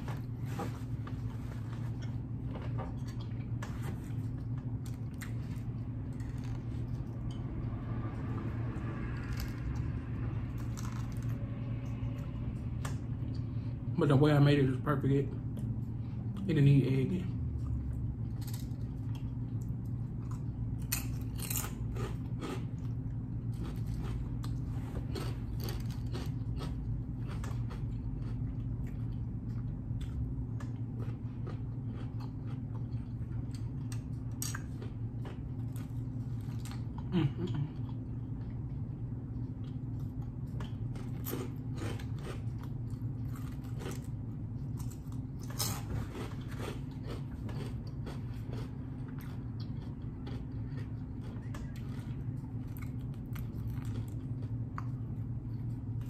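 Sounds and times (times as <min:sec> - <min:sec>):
low hum: 0:00.0 - 0:56.0
chewing crunchy chips: 0:00.9 - 0:56.0.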